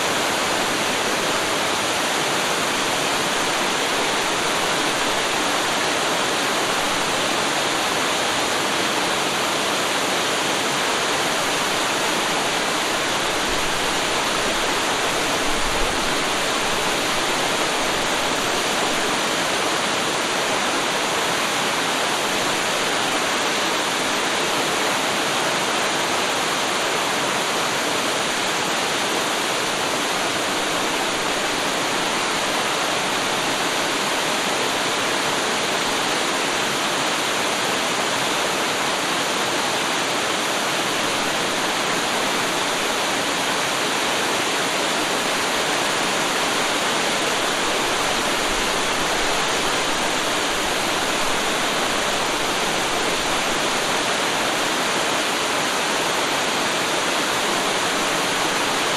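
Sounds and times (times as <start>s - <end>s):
waterfall splashing: 0.0s - 58.9s.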